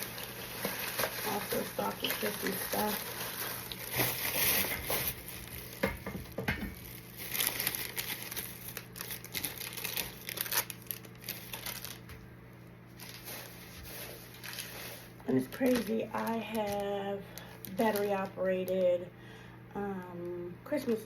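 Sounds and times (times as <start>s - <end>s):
bag crinkling and rustling: 0.0s - 5.8s, 6.7s - 12.2s, 12.9s - 18.9s.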